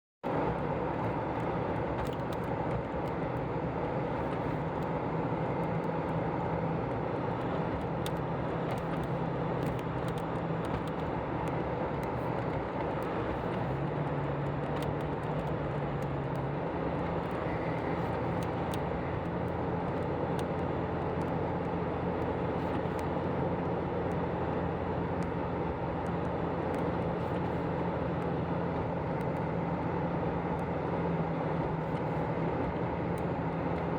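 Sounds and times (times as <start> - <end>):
car engine hum: 0.2 - 33.9
road and wind noise: 0.2 - 33.9.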